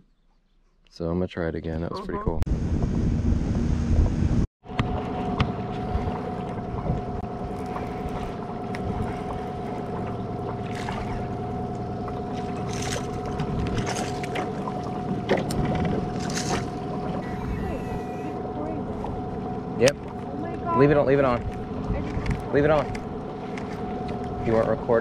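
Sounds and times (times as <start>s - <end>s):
boat motor humming: 2.0s - 25.0s.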